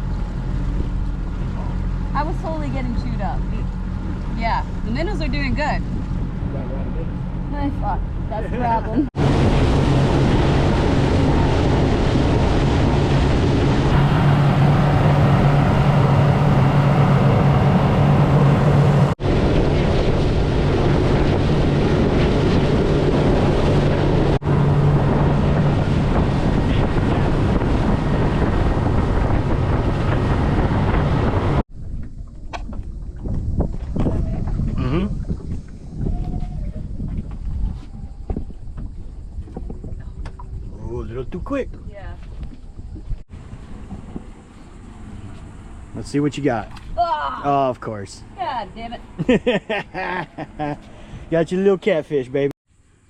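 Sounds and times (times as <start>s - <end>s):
water rushing: 0.0s - 36.5s, 42.7s - 52.4s
wind buffeting microphone: 0.0s - 47.5s
outboard motor running: 0.0s - 51.3s.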